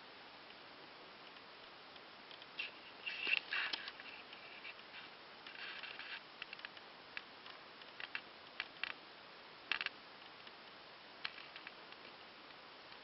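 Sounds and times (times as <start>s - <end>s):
steady hiss: 0.0s - 13.0s
small clicks and crackles: 1.2s - 13.0s.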